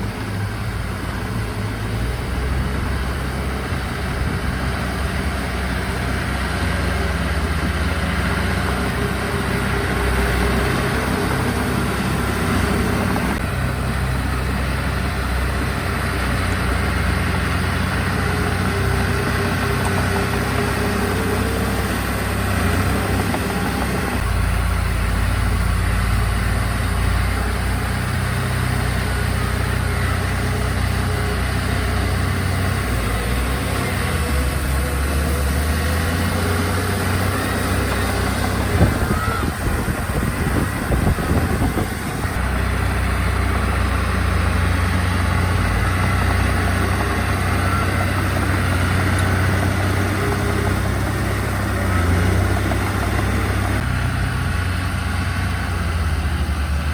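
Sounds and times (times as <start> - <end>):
heavy machinery diesel engine droning: 0.0 - 56.9.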